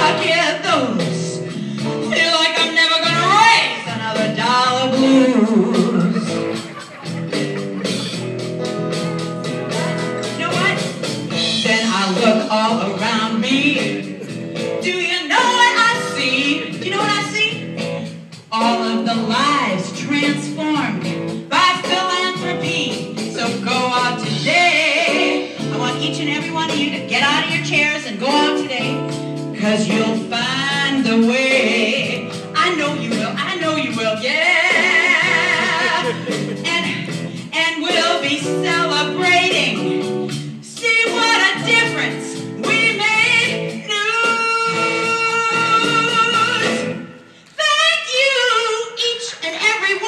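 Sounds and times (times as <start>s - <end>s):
woman singing blues: 0.0s - 6.7s, 7.4s - 50.0s
instrumental accompaniment: 0.0s - 47.6s.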